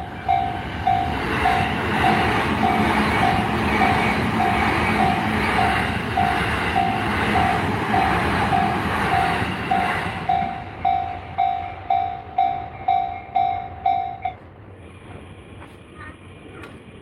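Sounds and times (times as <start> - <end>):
level crossing warning bell ringing: 0.0 - 14.5
train passing on rails: 0.0 - 17.0.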